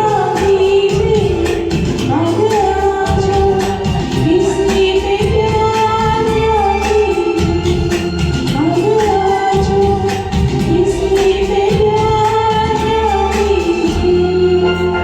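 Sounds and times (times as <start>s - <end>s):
instrumental accompaniment: 0.0s - 15.0s
woman singing: 0.0s - 15.0s.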